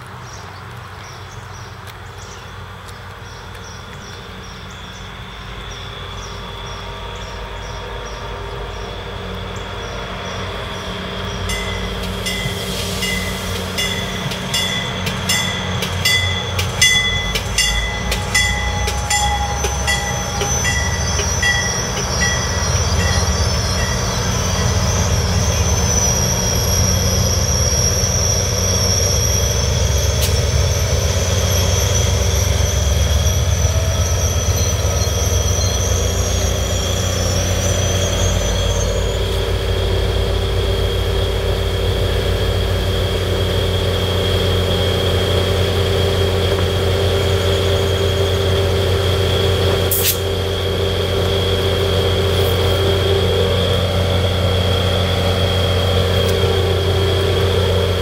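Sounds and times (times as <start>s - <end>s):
diesel locomotive rumbling: 0.0s - 58.0s
train wheels clicking over rail joints: 0.0s - 58.0s
high brake squeal: 4.6s - 58.0s.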